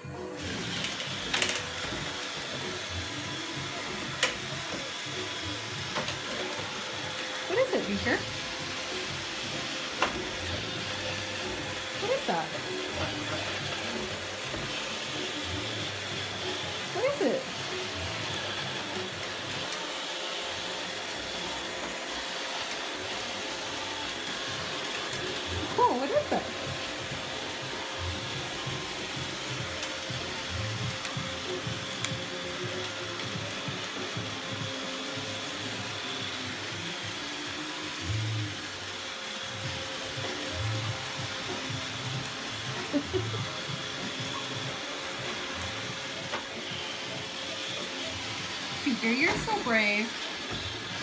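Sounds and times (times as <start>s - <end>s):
robot vacuum motor whir: 0.3s - 51.0s.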